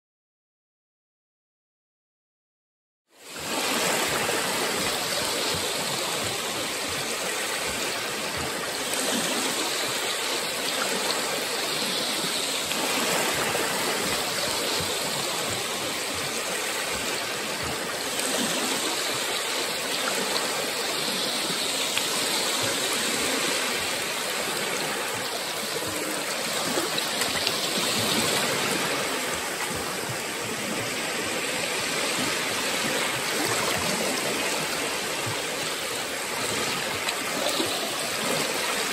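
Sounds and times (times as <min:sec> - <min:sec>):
small waves lapping on shore: 0:03.1 - 0:38.9.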